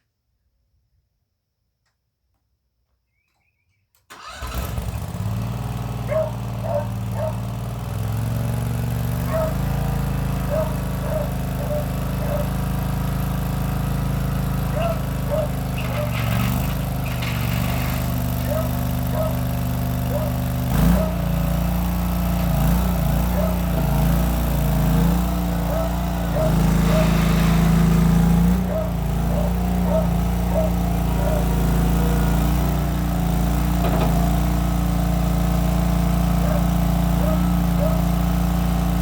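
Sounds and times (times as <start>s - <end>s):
skid steer engine running: 4.2s - 39.0s.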